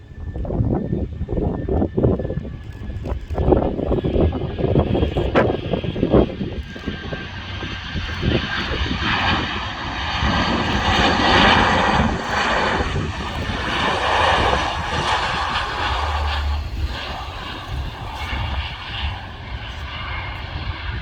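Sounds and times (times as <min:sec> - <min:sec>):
airliner jet engines whining: 0:00.0 - 0:21.0.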